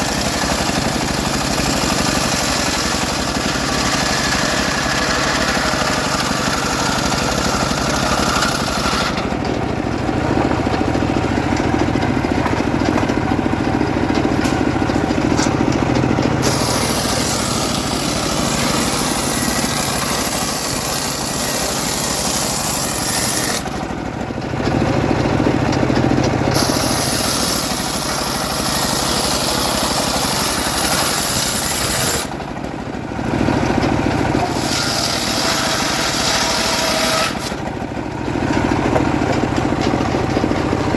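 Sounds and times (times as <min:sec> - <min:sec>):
sawmill cutting logs: 0:00.0 - 0:40.9.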